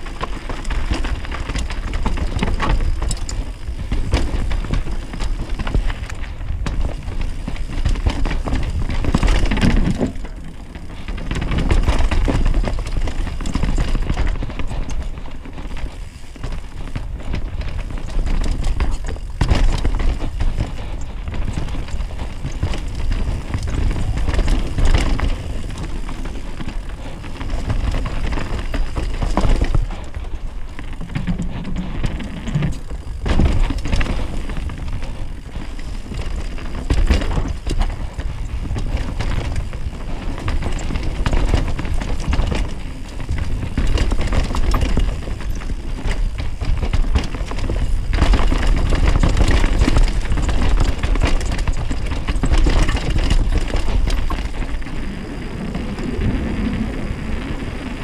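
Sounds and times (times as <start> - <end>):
bike clattering over bumps: 0.0 - 58.0
tyres on dirt: 0.0 - 58.0
wind rumble on microphone: 0.0 - 58.0.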